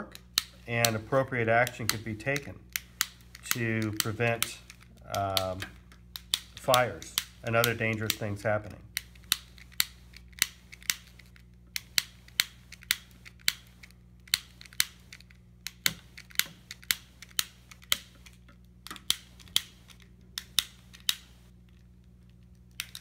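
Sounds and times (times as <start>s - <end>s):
electric arc sparks snapping: 0.0s - 21.6s
low electrical hum: 0.0s - 23.0s.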